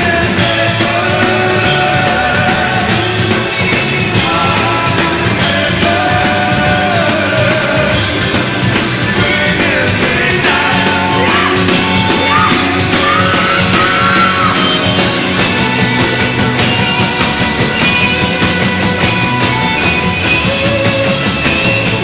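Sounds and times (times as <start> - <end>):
electric guitar lead lines: 0.0 - 22.0
hard rock band playing: 0.0 - 22.0.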